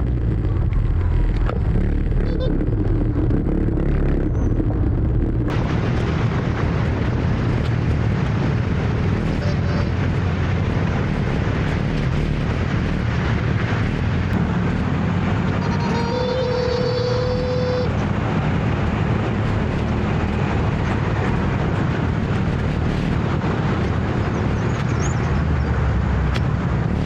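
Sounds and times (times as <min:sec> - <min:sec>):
motor scooter running: 0:00.0 - 0:25.0
wind buffeting microphone: 0:00.0 - 0:27.0.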